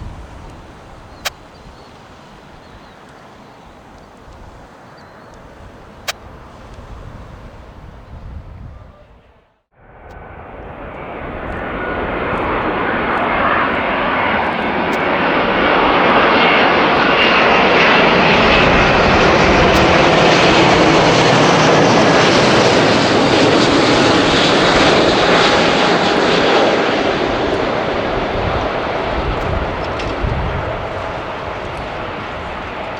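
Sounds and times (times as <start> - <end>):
jet airliner engines: 0.0 - 32.9.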